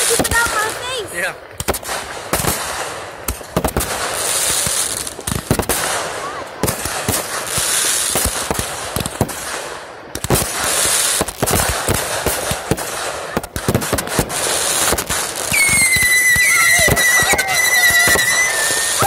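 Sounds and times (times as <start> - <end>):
fireworks bangs and crackles: 0.0 - 19.0
whistling firework: 1.6 - 19.0.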